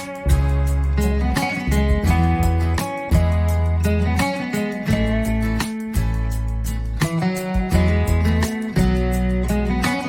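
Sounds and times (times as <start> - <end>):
strong bass line: 0.0 - 4.3, 4.9 - 10.0
plucked guitar: 0.0 - 10.0.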